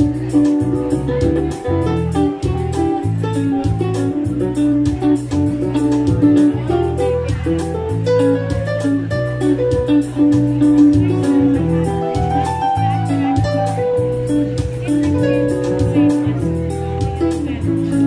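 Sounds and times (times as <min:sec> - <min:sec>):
electric guitar: 0:00.0 - 0:18.0
keyboard: 0:00.0 - 0:18.0
steady beat: 0:00.0 - 0:18.0
sustained bass notes: 0:00.0 - 0:18.0.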